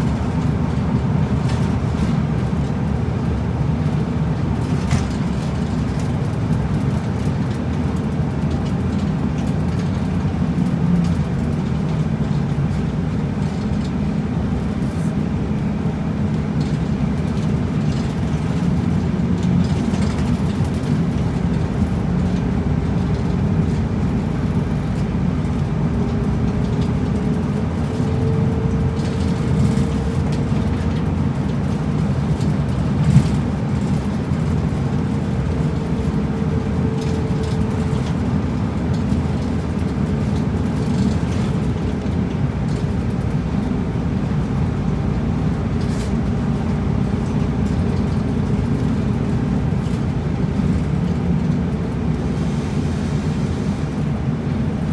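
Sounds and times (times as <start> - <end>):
bus engine and road rumble: 0.0 - 54.9.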